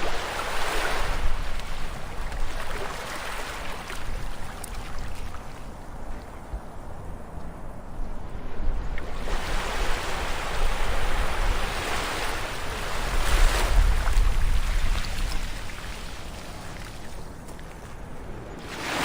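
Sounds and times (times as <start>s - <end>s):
ocean waves washing on shore: 0.0s - 19.0s.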